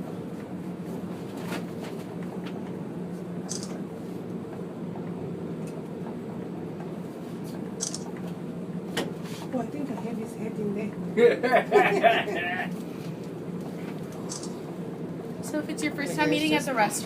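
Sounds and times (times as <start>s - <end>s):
elevator hum and rush: 0.0s - 17.0s.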